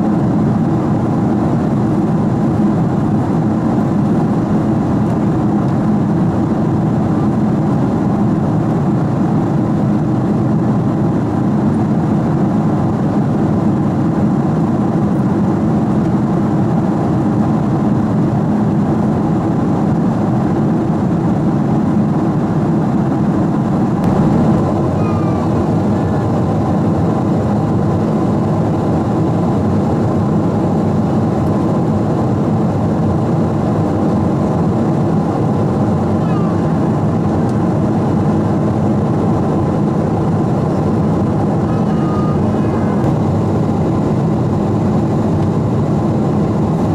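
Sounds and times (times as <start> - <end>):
airliner cabin engine rush: 0.0 - 46.9.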